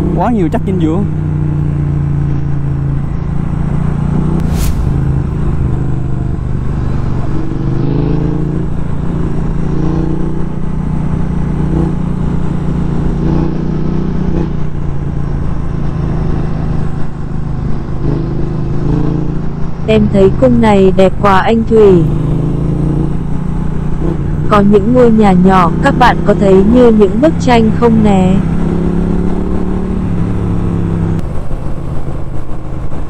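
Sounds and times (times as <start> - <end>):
motorcycle engine running: 0.0 - 33.0
road noise: 0.0 - 33.0.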